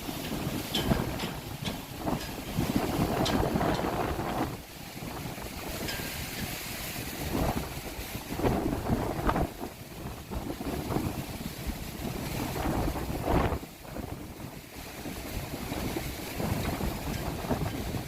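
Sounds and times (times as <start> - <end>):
storm wind gusting on microphone: 0.0 - 18.0.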